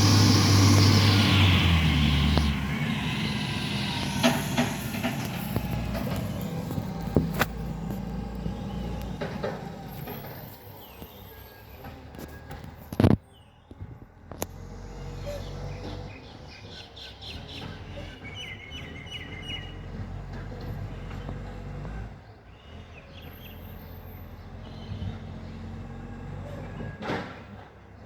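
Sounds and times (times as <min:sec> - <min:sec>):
garbage truck diesel engine: 0:00.0 - 0:28.0.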